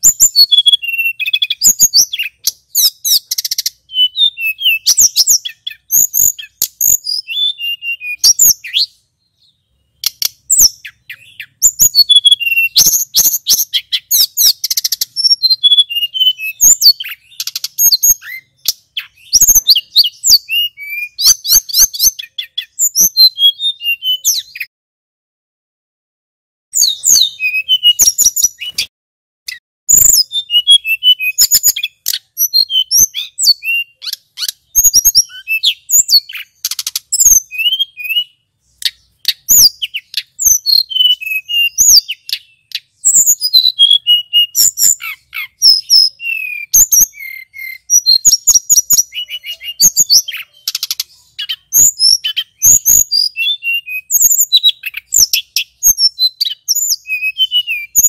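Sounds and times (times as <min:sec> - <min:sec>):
bird singing whistles and trills: 0:00.0 - 0:24.7, 0:26.7 - 0:28.9, 0:29.5 - 0:58.0.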